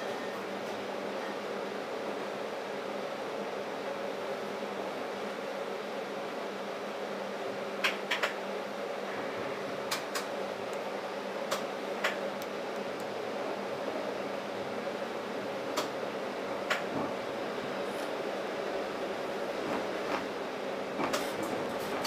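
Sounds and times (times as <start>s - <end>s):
streetcar interior drone: 0.0s - 22.0s.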